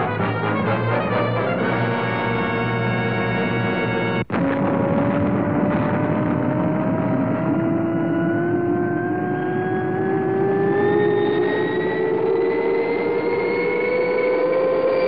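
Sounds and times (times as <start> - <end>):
rocket engine roar with rising whine: 1.2 - 15.0.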